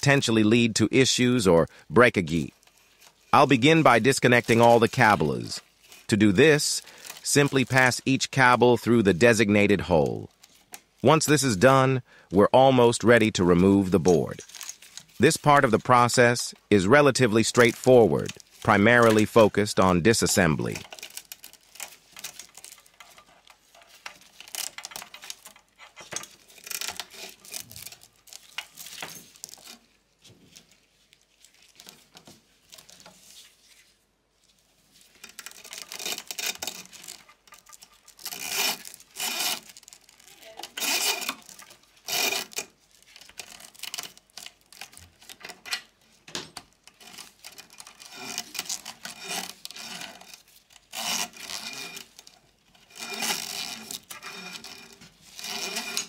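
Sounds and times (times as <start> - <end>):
cables rustling and scraping: 0.1 - 56.0.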